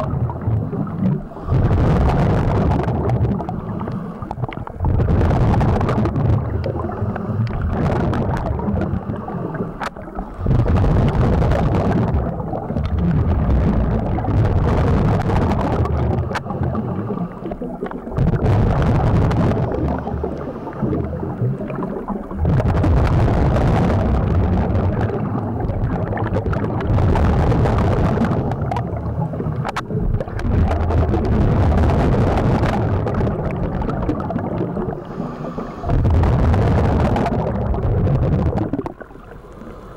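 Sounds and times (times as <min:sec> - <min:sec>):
diver breathing bubbles underwater: 0:00.0 - 0:39.9.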